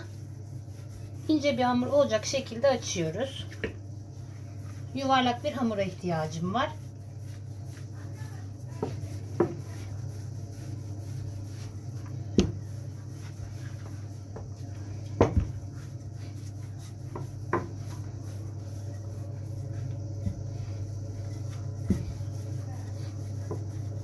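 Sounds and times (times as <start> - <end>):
rolling pin rolling dough: 0.0 - 24.0.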